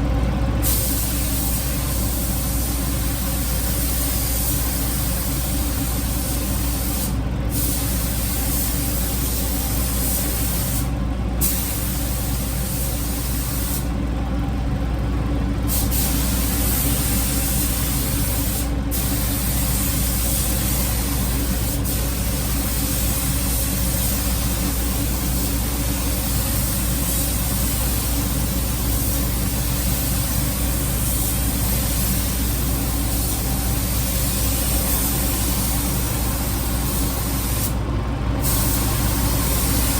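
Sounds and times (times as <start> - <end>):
constant low hum: 0.0 - 39.9
paint spray gun hissing: 0.6 - 13.9, 15.7 - 37.8, 38.4 - 39.9.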